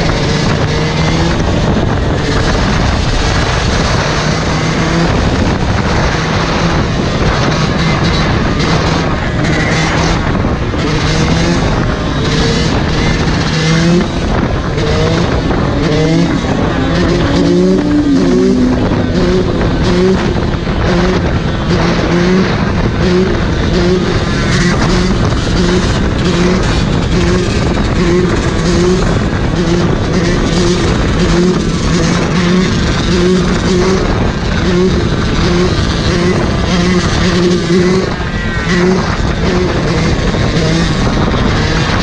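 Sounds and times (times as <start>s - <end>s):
dirt bike engine running hard: 0.0s - 42.0s
wind buffeting microphone: 0.0s - 42.0s.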